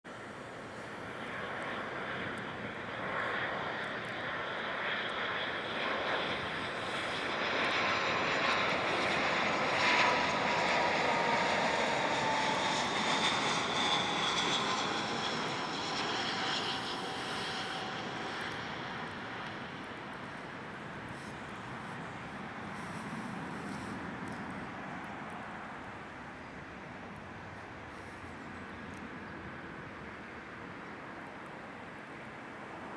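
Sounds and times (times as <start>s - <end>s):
jet airliner flying past: 0.1s - 31.3s.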